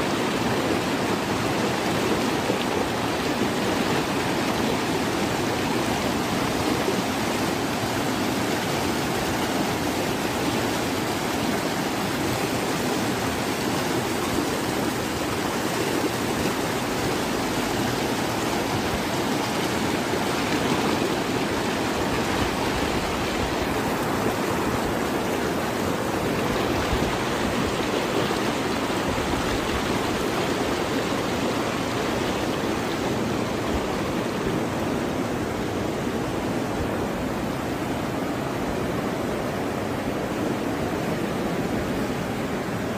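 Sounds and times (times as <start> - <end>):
floodwater rushing: 0.0 - 42.9.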